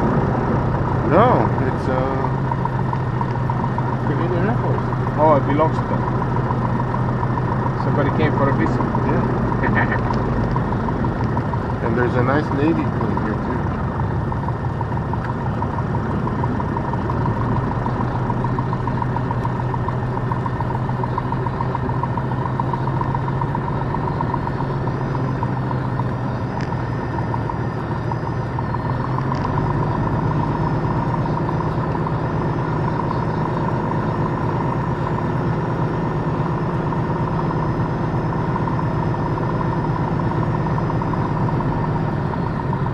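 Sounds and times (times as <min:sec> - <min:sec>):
aircraft engine running: 0:00.0 - 0:42.9.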